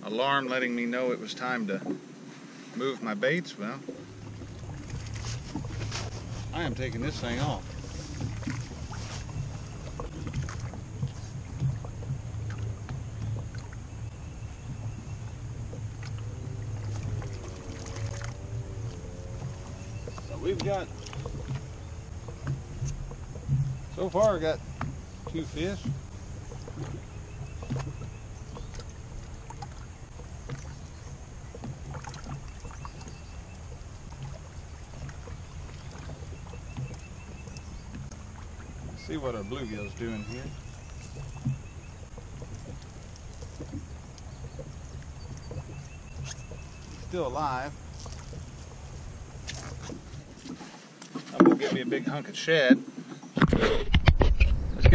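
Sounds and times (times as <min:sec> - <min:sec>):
low rumble of open air: 0:00.0 - 0:50.7, 0:53.2 - 0:54.9
knocks and shuffles in a boat: 0:00.0 - 0:54.9
steady low hum: 0:00.5 - 0:50.4.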